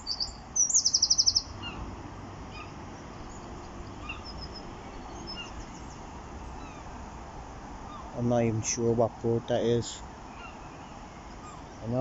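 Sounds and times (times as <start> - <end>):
songbird chirping and trilling: 0.0 - 7.0, 7.8 - 8.6, 9.6 - 12.0
steady low background noise: 0.0 - 12.0.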